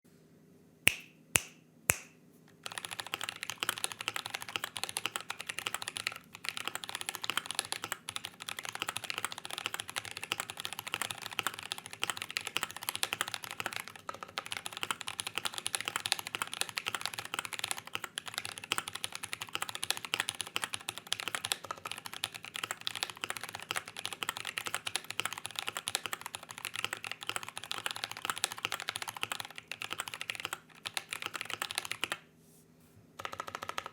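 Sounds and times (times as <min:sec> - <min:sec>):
mechanical keyboard typing: 0:02.6 - 0:32.2, 0:33.2 - 0:33.9.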